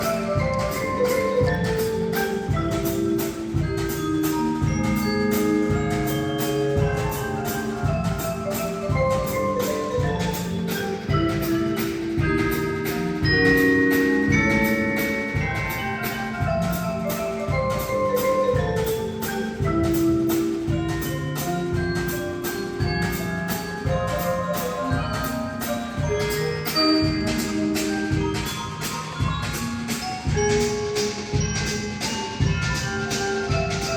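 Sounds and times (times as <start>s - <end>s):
concert band playing: 0.0s - 33.9s
mallet percussion tune: 0.0s - 33.9s.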